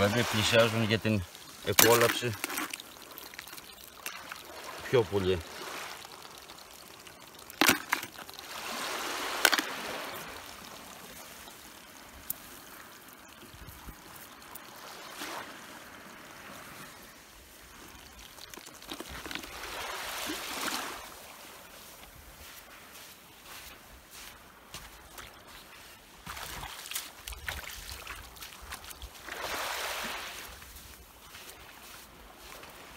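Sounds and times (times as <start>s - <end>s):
small waves washing on shore: 0.0s - 32.9s.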